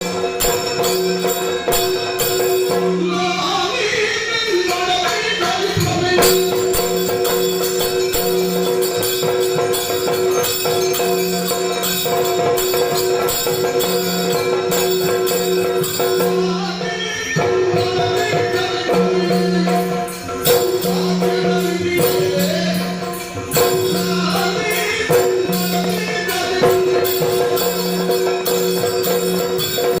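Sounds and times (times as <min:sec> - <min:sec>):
fast drum strokes: 0:00.0 - 0:03.6, 0:05.5 - 0:30.0
small hand cymbals: 0:00.0 - 0:03.8, 0:04.7 - 0:30.0.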